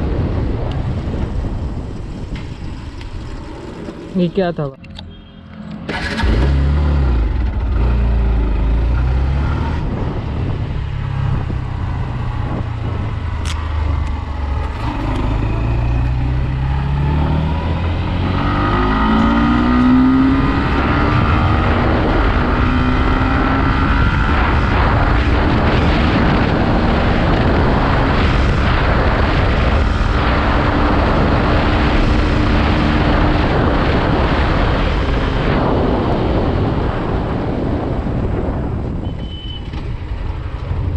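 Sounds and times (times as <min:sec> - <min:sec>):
motorcycle engine accelerating: 0:00.0 - 0:04.2, 0:04.8 - 0:39.0
wind and road noise: 0:00.0 - 0:40.9.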